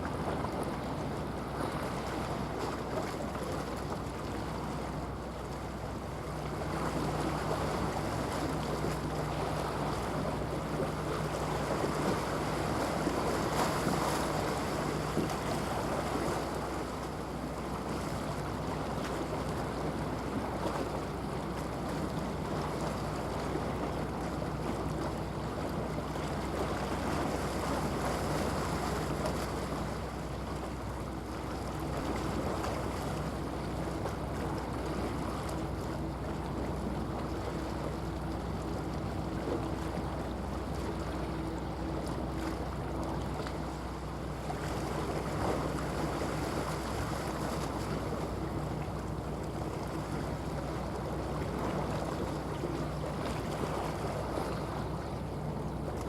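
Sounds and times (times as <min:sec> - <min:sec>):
rushing water: 0:00.0 - 0:56.0
ship diesel engine drone: 0:00.0 - 0:56.0
wind: 0:00.0 - 0:56.0.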